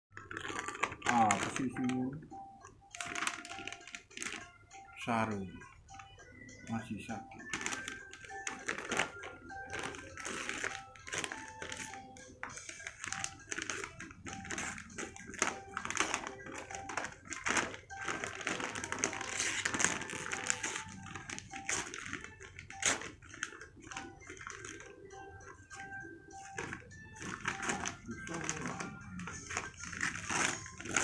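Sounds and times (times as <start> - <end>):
wrapping paper tearing and crinkling: 0.2 - 2.1, 2.9 - 4.6, 7.4 - 31.0
faint music: 0.2 - 31.0.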